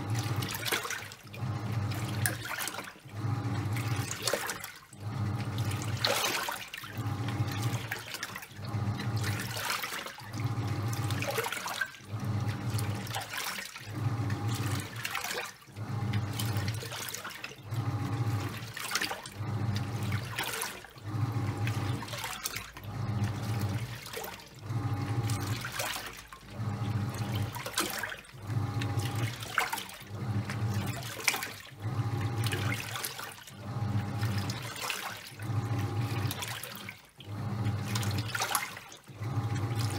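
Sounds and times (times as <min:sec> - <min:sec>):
washing machine motor humming: 0:00.0 - 0:39.9
water and wet towels sloshing: 0:00.0 - 0:39.9.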